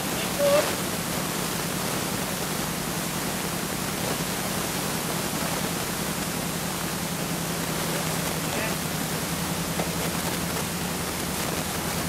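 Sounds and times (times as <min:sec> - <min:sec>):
steady recording hiss: 0:00.0 - 0:12.0.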